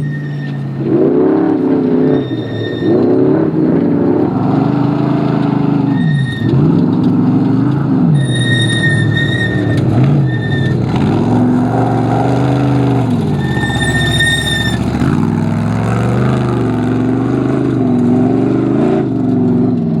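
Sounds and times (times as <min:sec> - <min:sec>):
high-pitched squeal: 0:00.0 - 0:16.9
race car engine revving: 0:00.0 - 0:20.0.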